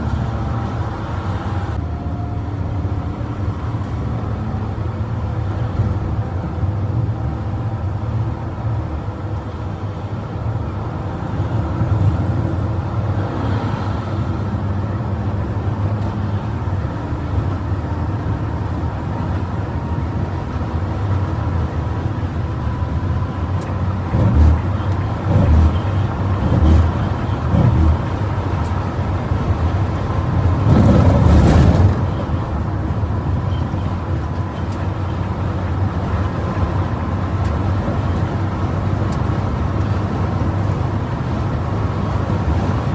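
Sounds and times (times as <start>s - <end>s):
bus engine and road drone: 0.0s - 42.9s.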